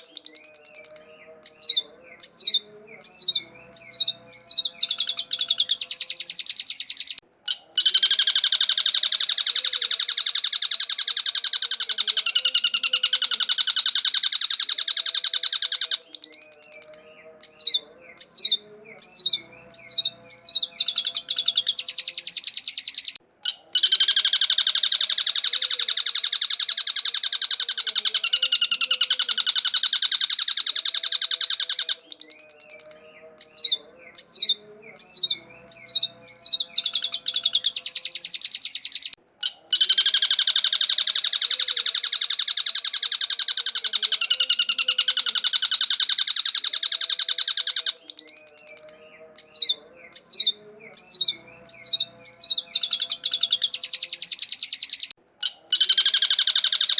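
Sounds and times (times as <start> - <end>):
bird harsh chattering: 0.0 - 56.9
bird wavering whistled phrases: 0.0 - 56.9.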